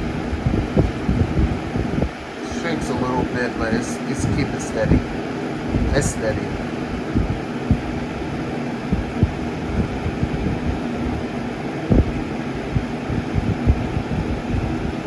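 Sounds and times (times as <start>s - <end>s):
airflow buffeting microphone: 0.0s - 15.0s
box fan running: 0.0s - 15.0s.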